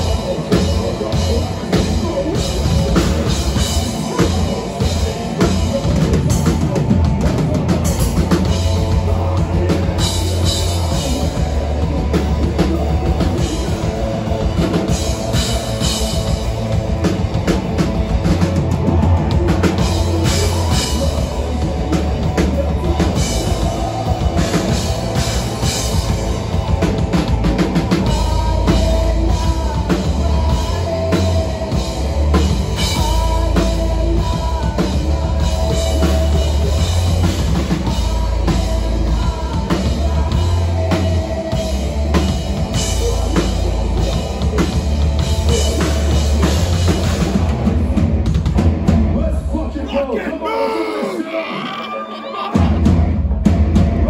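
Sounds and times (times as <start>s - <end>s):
heavy bass drum: 0.0s - 49.6s, 52.6s - 54.0s
loud metal band playing: 0.0s - 54.0s.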